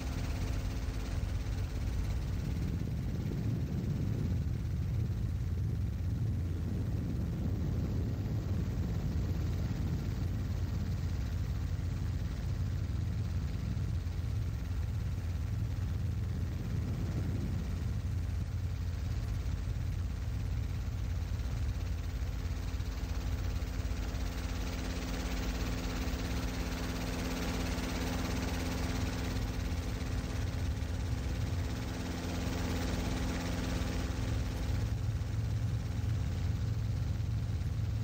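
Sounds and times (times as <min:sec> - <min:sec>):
helicopter engine and rotor drone: 0:00.0 - 0:38.0.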